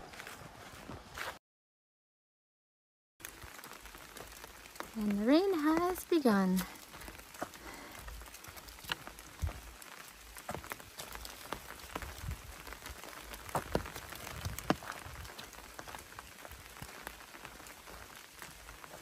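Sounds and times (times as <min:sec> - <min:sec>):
rain pattering on leaves: 0:03.2 - 0:19.0.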